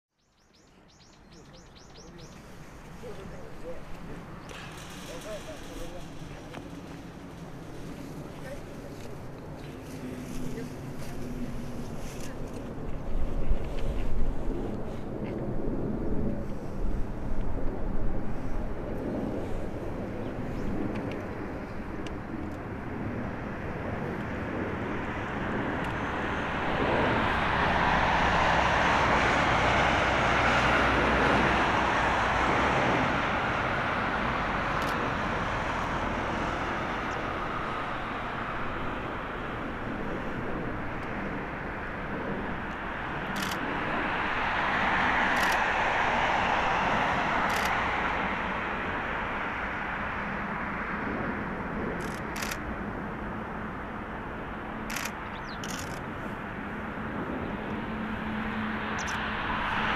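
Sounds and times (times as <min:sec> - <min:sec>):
airliner jet engines landing: 0:00.8 - 0:59.9.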